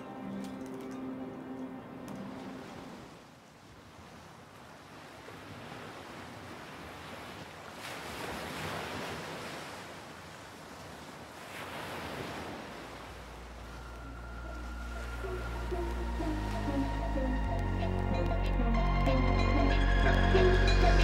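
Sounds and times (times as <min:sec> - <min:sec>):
ocean waves washing in: 0:01.1 - 0:21.0.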